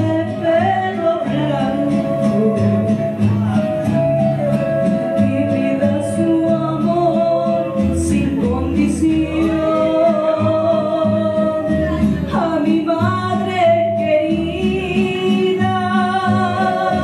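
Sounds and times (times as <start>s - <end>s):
woman singing into a microphone: 0.0s - 4.1s, 5.0s - 17.0s
instrumental backing music: 0.0s - 17.0s.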